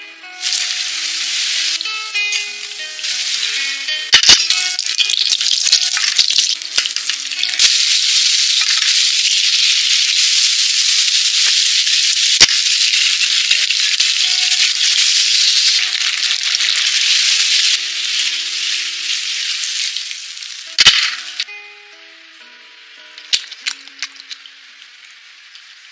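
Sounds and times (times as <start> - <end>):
food sizzling in hot oil: 0.4 - 21.5, 23.4 - 25.9.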